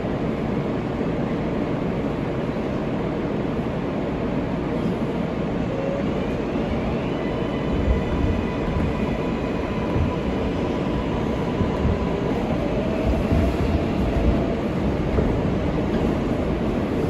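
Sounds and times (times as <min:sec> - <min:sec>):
subway train wheels rumbling: 0:00.0 - 0:17.0.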